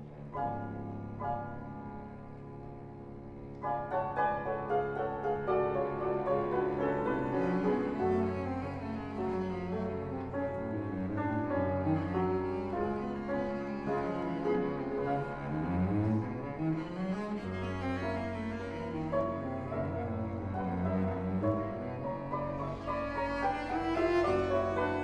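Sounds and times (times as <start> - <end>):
cello playing: 0.0 - 25.0.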